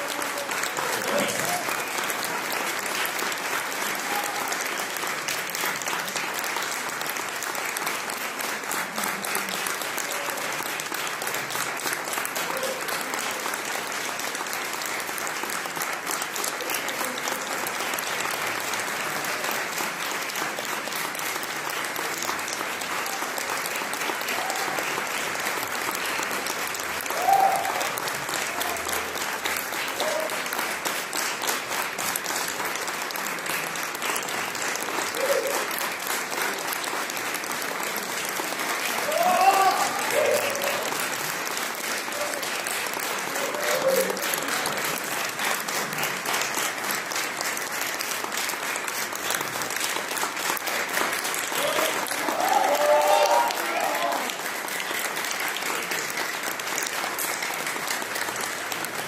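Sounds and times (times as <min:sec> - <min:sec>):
audience applauding: 0:00.0 - 0:59.0.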